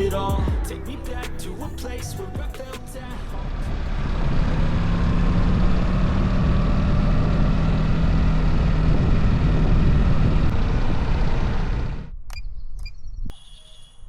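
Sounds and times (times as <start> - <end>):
heavy rushing roar: 0.0 - 12.1.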